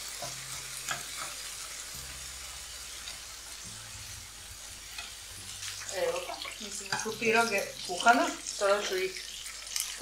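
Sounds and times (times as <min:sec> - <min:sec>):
pancetta sizzling in a pan: 0:00.0 - 0:10.0.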